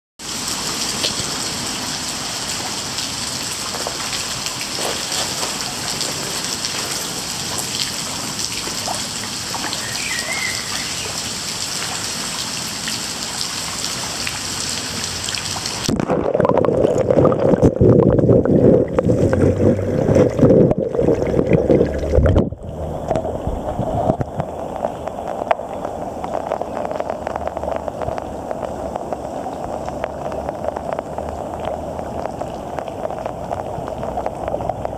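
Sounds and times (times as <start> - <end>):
river water flowing: 0.2 - 34.9
wading through water: 3.3 - 12.7, 14.9 - 34.9.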